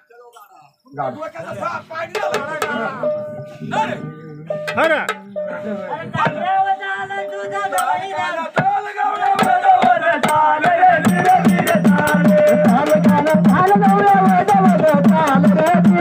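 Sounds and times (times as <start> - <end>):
voices chanting folk style: 0.9 - 16.0
drums fast beat: 1.6 - 3.2, 4.5 - 16.0.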